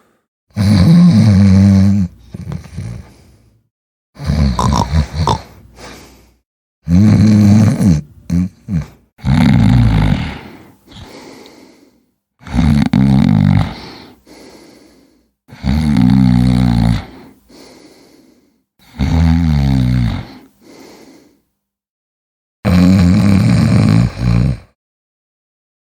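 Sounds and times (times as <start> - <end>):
person snoring: 0.0 - 3.4, 4.2 - 6.2, 6.8 - 21.4, 22.7 - 24.8.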